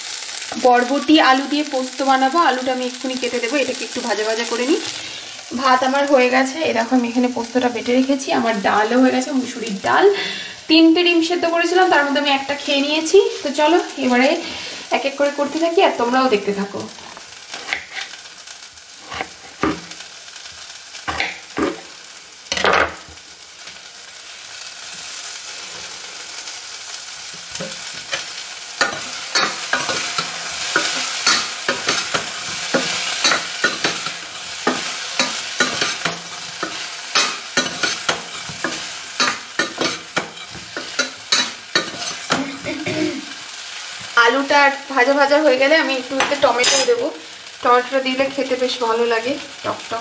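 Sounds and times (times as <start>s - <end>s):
potatoes sizzling in hot oil: 0.0s - 50.0s.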